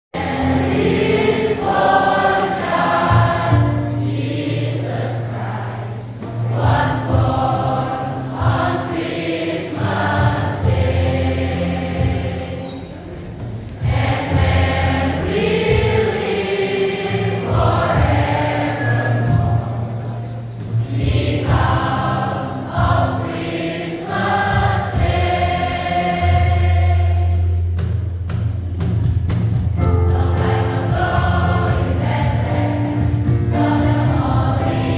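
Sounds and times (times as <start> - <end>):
choir singing: 0.2 - 27.8, 30.0 - 34.9.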